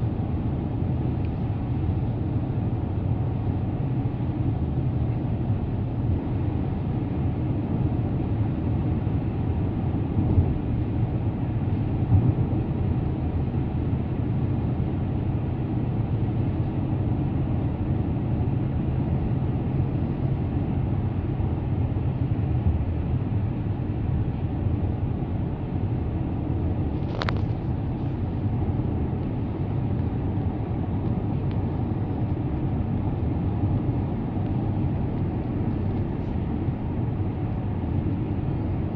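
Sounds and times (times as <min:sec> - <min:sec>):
moving car road noise: 0:00.0 - 0:38.9.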